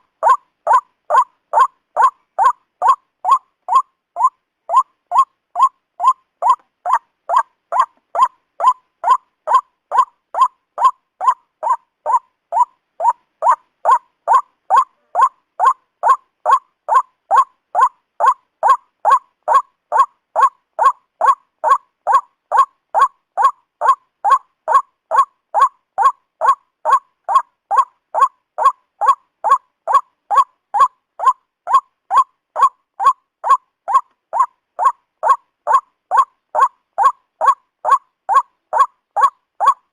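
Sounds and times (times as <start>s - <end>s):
waterhen hoarse call: 0.0s - 39.9s.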